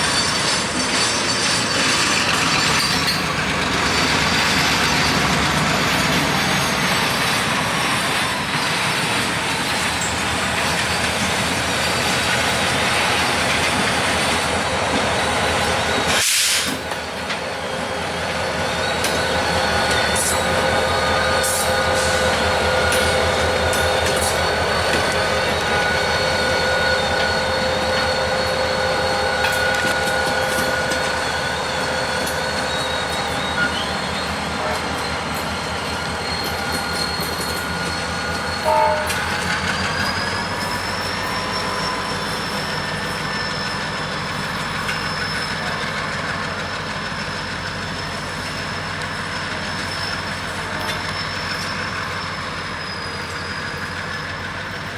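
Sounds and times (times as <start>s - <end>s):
diesel locomotive engines throbbing: 0.0s - 54.9s.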